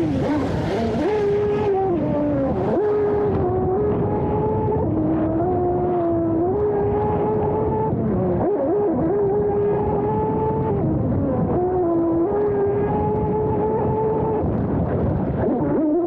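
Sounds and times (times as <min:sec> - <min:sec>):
electric motor whining: 0:00.0 - 0:14.4.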